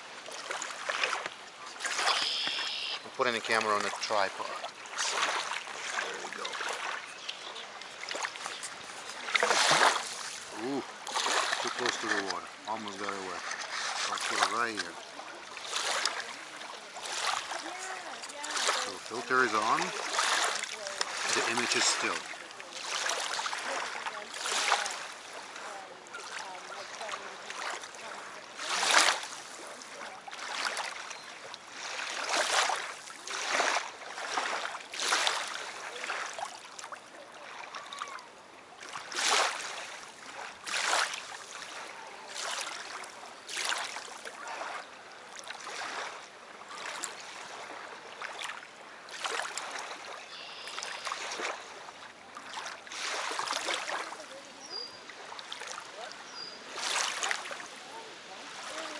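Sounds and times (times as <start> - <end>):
waves lapping on shore: 0.0 - 58.9.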